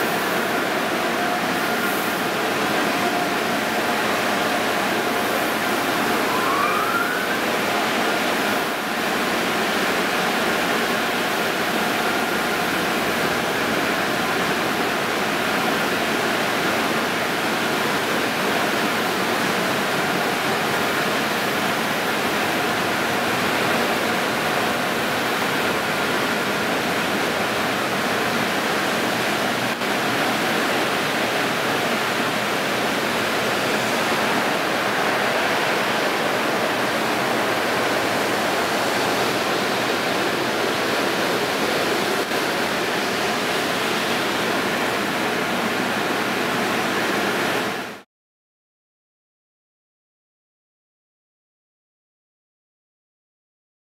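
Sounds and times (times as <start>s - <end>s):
car wash water jets spraying: 0.0s - 48.0s.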